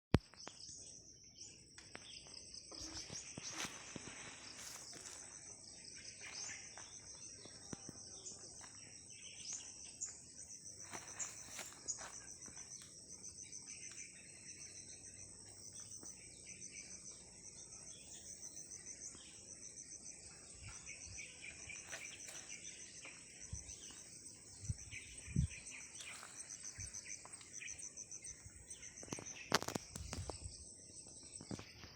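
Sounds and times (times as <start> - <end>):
bird chirps: 0.1 - 31.9
insects trilling: 0.1 - 31.9.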